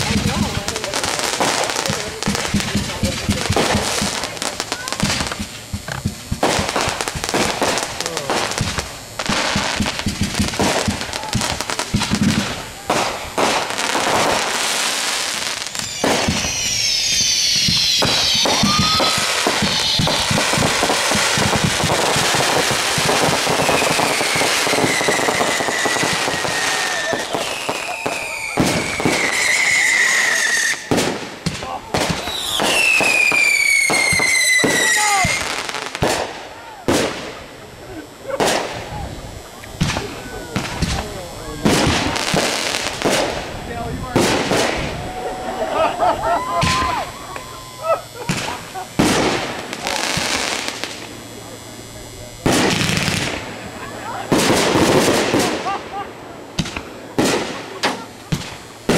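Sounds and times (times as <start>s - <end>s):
fireworks popping and crackling: 0.0s - 58.9s
whistling fireworks: 0.0s - 58.9s.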